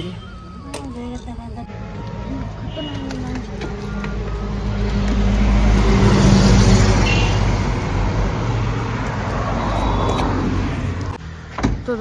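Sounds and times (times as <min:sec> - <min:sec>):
passing vehicle engine and tyres: 0:00.0 - 0:12.0.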